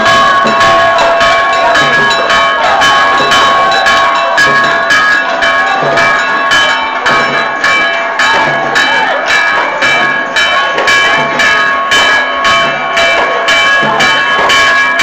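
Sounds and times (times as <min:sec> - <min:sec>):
church bells pealing: 0:00.0 - 0:15.0
deeper bell tolling: 0:00.0 - 0:15.0.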